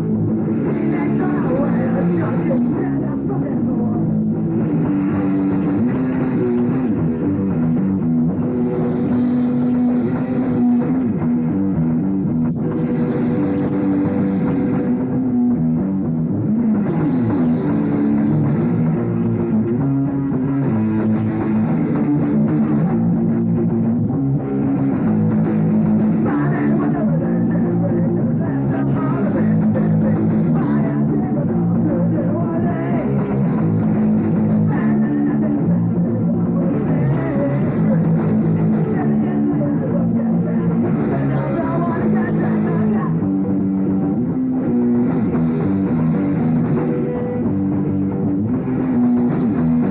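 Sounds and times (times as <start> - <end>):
electric guitar: 0.0 - 49.9
drum kit: 4.1 - 49.9.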